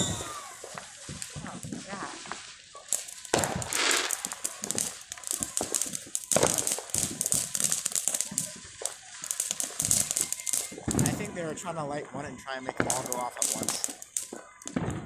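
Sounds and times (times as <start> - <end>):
firework crackling and popping: 0.0 - 15.0
firework fountain hissing: 0.0 - 15.0.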